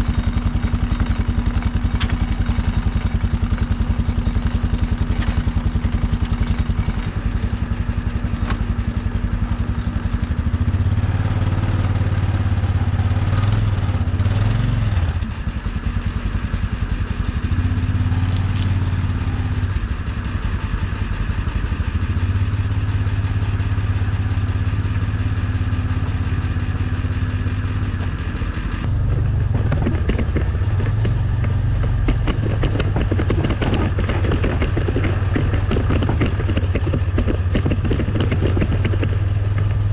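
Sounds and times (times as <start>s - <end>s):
clatter: 0.0s - 39.9s
vehicle engine running: 0.0s - 39.9s.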